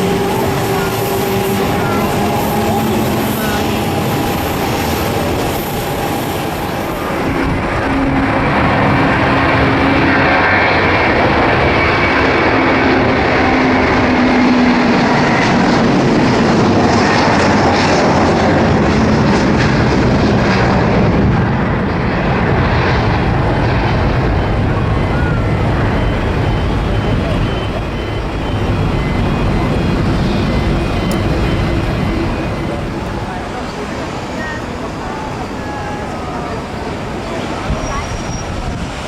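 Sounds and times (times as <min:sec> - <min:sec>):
jet engines running: 0:00.0 - 0:39.0.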